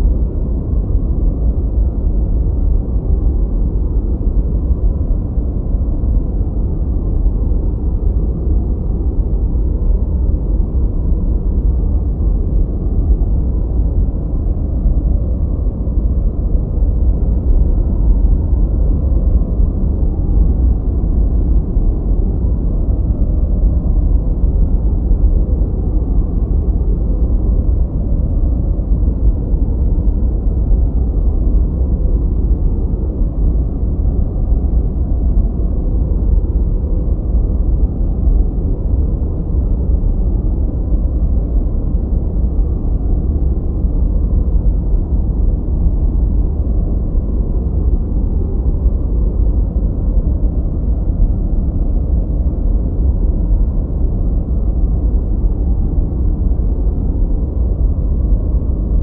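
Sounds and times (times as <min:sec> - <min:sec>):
deep rumbling generated noise: 0:00.0 - 0:59.0.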